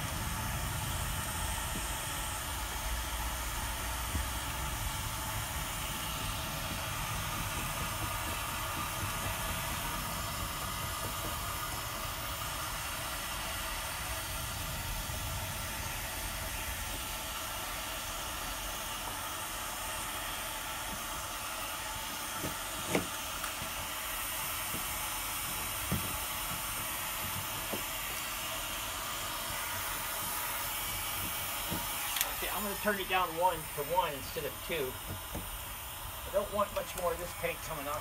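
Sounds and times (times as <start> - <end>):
heat gun blowing hot air: 0.0 - 38.0.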